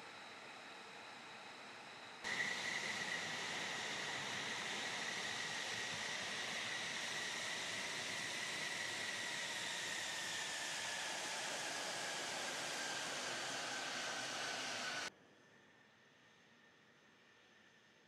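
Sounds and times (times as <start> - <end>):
jet engine rushing and whining: 0.0 - 15.1.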